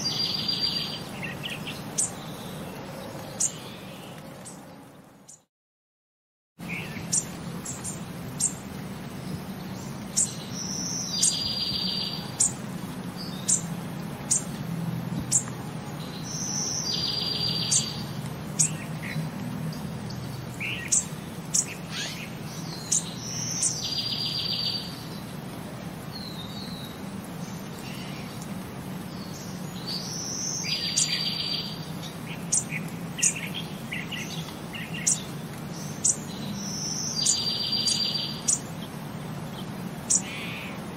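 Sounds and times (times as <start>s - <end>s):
birds chirping: 0.0s - 5.5s, 6.6s - 40.9s.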